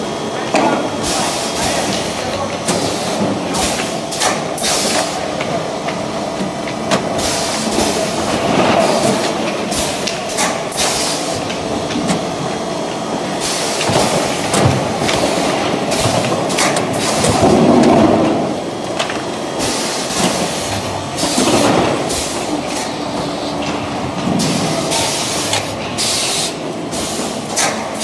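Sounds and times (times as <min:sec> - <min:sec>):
machine hum: 0:00.0 - 0:28.0.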